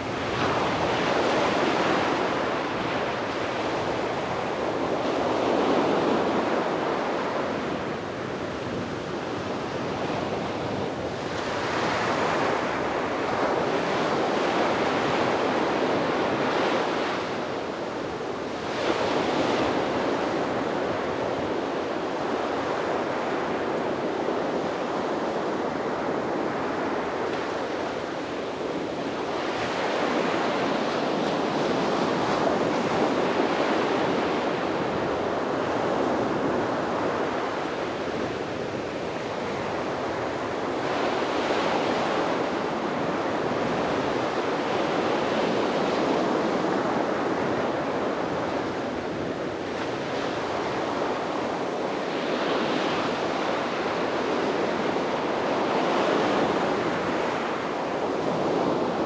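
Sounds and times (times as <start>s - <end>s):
sea surf breaking on beach: 0.0s - 59.0s.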